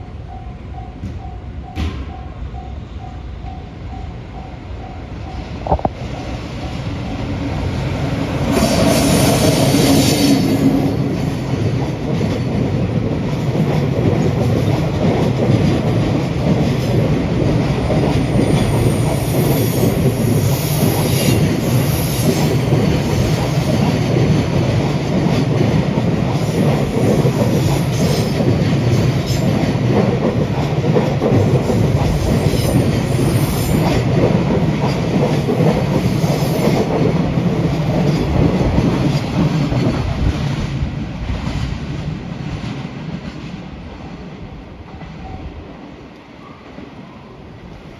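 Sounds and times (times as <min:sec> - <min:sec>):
freight train rumbling past: 0:00.0 - 0:47.9.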